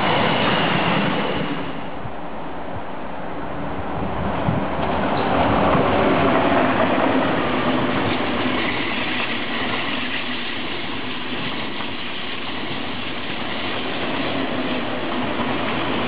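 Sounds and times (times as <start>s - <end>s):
train wheels rushing on rail: 0.0s - 16.0s.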